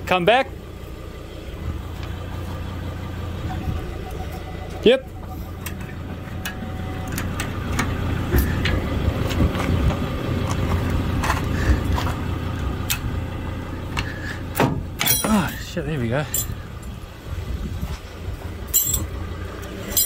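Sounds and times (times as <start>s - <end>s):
vehicle engine running at low revs: 0.0s - 20.0s.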